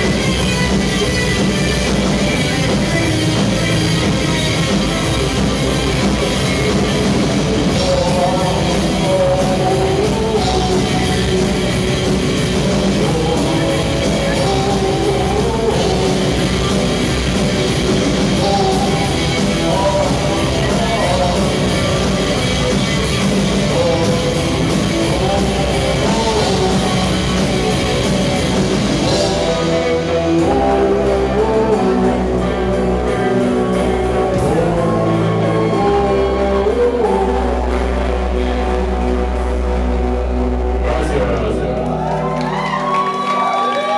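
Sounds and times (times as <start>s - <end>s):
person singing: 0.0s - 39.8s
live rock band playing: 0.0s - 43.9s.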